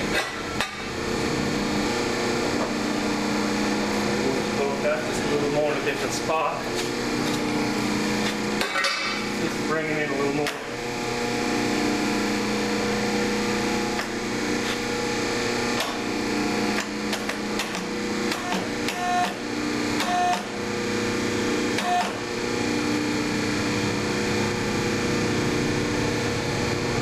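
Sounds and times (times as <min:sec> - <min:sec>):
tube bender machine hum: 0:00.0 - 0:27.0.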